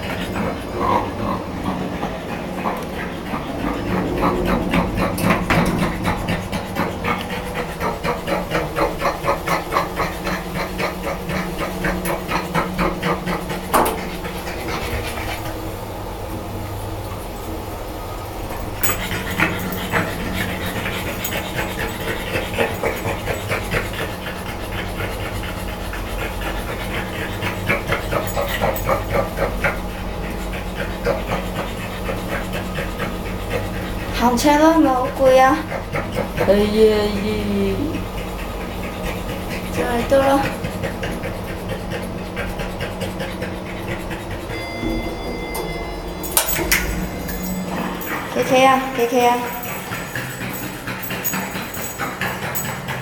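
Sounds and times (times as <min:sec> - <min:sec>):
dog panting hard: 0:00.0 - 0:53.0
steady low hum: 0:00.0 - 0:53.0.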